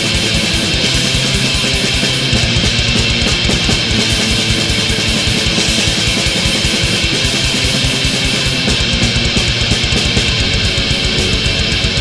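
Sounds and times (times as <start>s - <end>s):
distorted electric guitars: 0.0s - 12.0s
fast kick drum: 0.0s - 12.0s.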